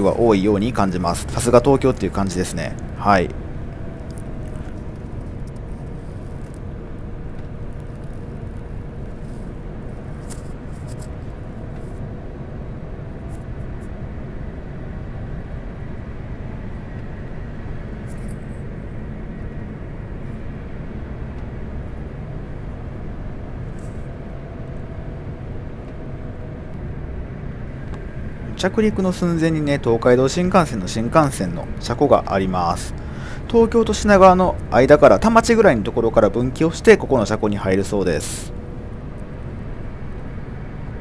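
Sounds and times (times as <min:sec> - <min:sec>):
engine and airflow rumble: 0:00.0 - 0:41.0
faint steady hum tones: 0:00.0 - 0:41.0.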